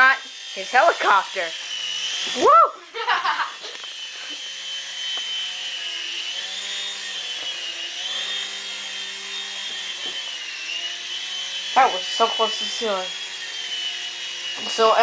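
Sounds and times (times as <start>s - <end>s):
toy helicopter rotors whining: 0.0s - 15.0s.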